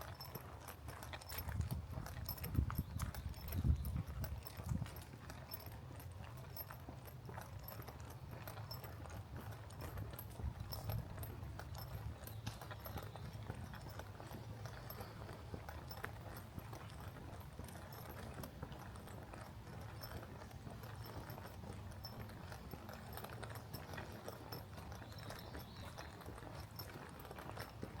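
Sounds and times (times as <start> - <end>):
footsteps on a trail: 0.0 - 28.0.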